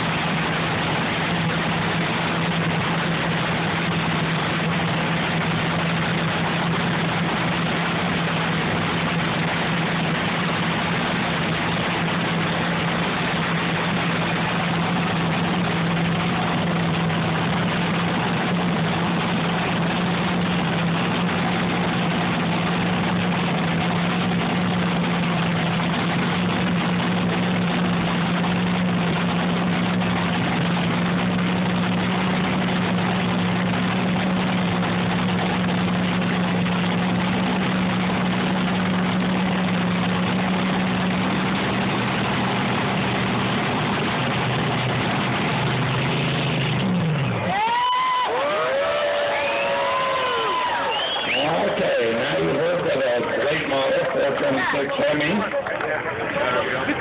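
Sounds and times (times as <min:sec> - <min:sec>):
dragster engines idling: 0:00.0 - 0:47.6, 0:48.2 - 0:57.0.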